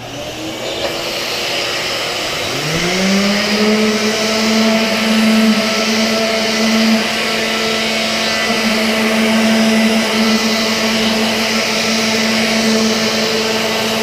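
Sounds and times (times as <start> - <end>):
sander motor humming: 0.0 - 14.0
vacuum rushing noise: 0.0 - 14.0.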